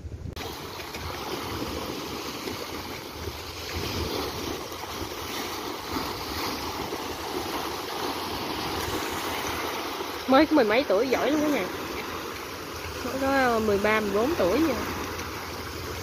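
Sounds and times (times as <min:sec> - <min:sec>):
waves breaking on rocky shore: 0:00.2 - 0:16.0.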